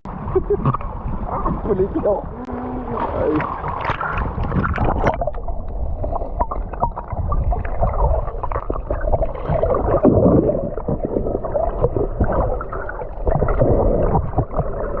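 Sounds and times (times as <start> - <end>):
underwater sloshing and gurgling: 0.1 - 15.0.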